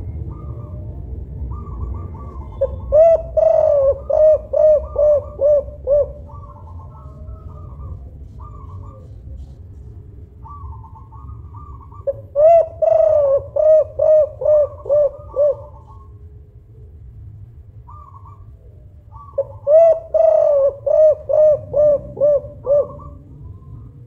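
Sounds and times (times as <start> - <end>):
dove cooing: 0.0 - 17.0, 17.8 - 24.0.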